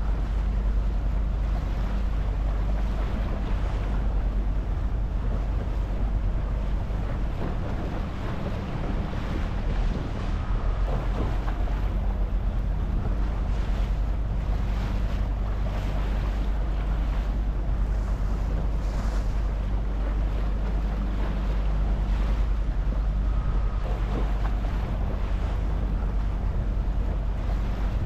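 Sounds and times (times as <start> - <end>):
boat engine rumble: 0.0 - 28.0
wind buffeting microphone: 0.0 - 28.0.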